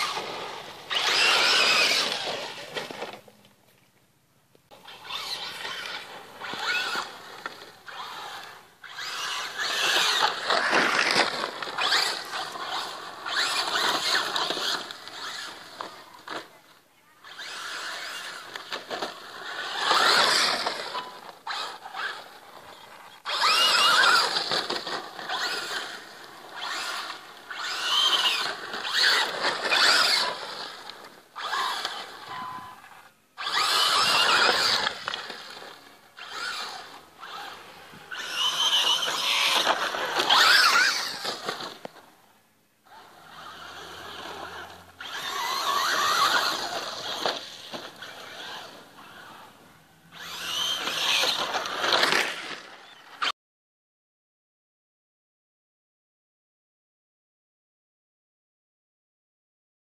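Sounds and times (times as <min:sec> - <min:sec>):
electric toy car motor whining: 0:00.0 - 0:03.2, 0:04.7 - 0:16.5, 0:17.2 - 0:42.1, 0:42.8 - 0:53.4.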